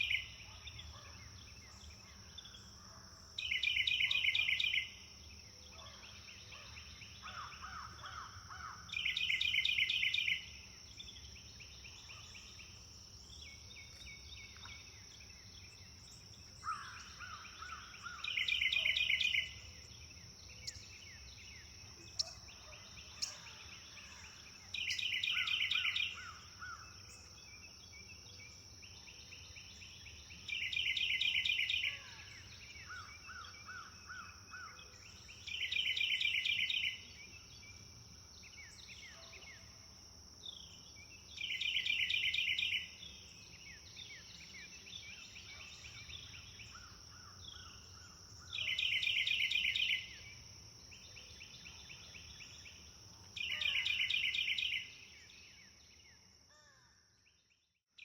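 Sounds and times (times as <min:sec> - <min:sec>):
bird chirps: 0:03.4 - 0:05.0, 0:05.7 - 0:37.8, 0:40.5 - 0:56.3.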